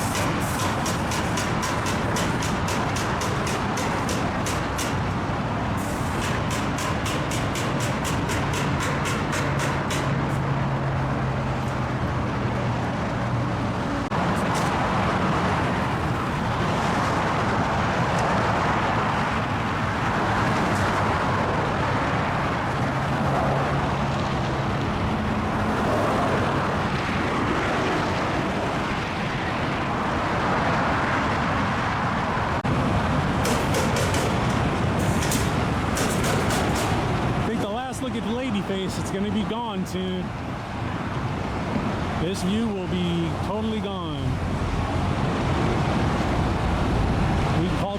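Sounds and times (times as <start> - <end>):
cars passing with tyre noise: 0.0 - 47.9
heavy vehicle engine hum: 0.0 - 47.9.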